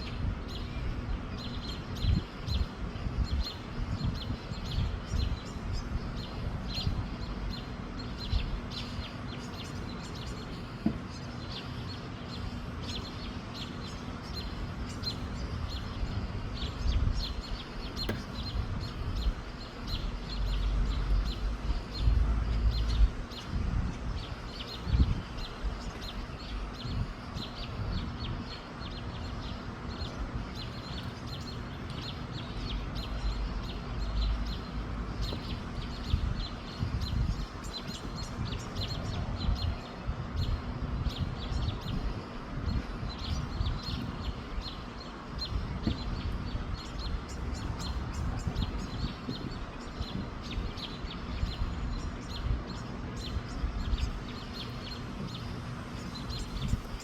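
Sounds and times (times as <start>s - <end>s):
small birds chirping: 0.0s - 57.0s
wind gusting on microphone: 0.0s - 57.0s.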